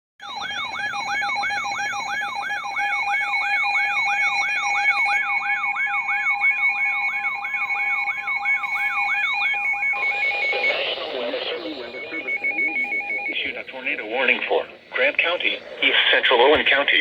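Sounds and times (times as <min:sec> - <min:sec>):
siren-style alarm: 0:00.2 - 0:17.0.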